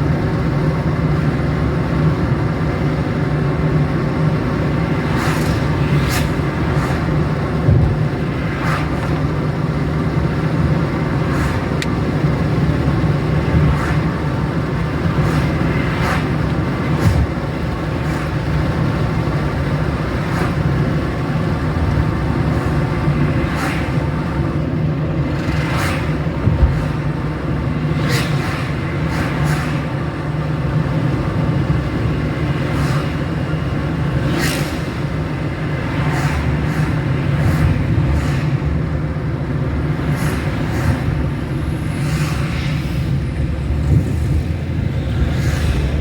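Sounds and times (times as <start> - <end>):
engine and tyre rumble: 0.0 - 46.0
passing traffic: 0.0 - 46.0.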